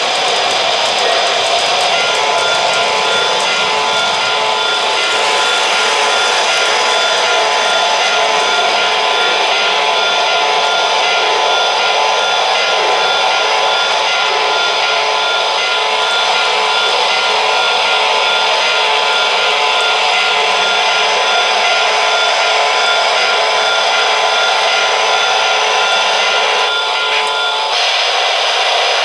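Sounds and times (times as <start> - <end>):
model train rolling: 0.0 - 29.0
thin steady whine: 0.0 - 29.0.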